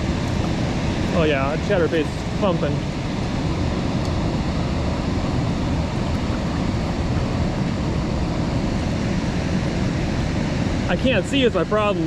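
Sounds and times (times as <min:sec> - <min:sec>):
water rushing below spillway: 0:00.0 - 0:12.0.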